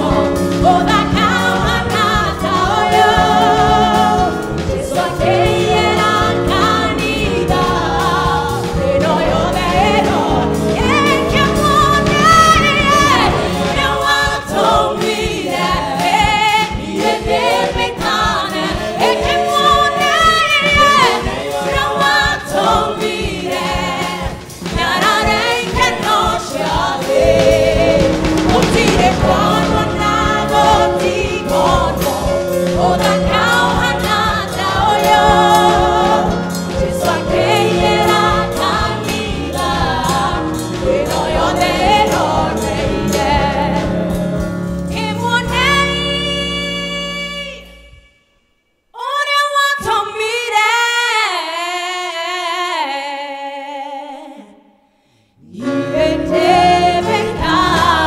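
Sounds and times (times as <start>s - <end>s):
band with drum kit: 0.0s - 47.7s, 55.7s - 58.0s
people singing into microphones: 0.0s - 47.7s, 55.4s - 58.0s.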